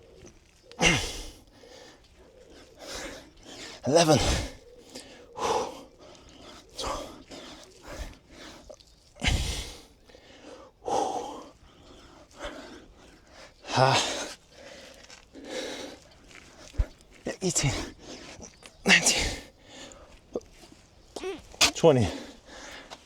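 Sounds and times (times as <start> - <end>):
man breathing hard: 0.7 - 20.8, 22.0 - 23.0.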